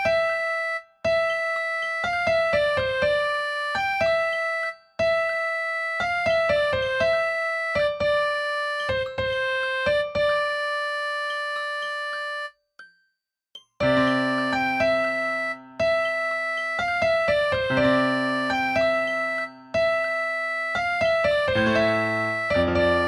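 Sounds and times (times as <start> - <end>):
electric piano melody: 0.0 - 12.5, 13.8 - 23.0.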